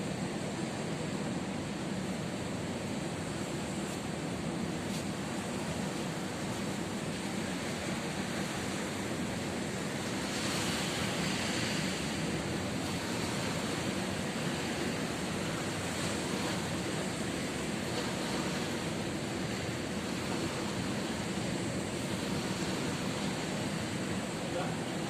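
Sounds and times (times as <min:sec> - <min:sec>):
ocean waves breaking on beach: 0:00.0 - 0:25.0.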